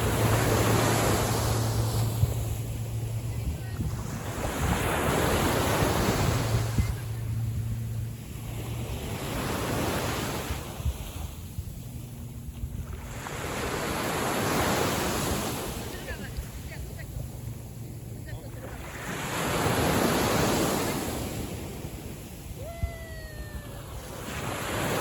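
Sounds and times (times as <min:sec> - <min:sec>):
small waves washing in and out: 0:00.0 - 0:25.0
steady low hum: 0:00.0 - 0:25.0.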